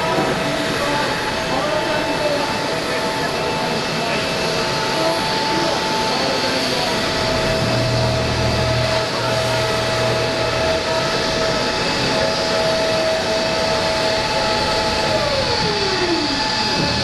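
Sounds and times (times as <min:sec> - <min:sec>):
jet turbine whine: 0:00.0 - 0:17.0.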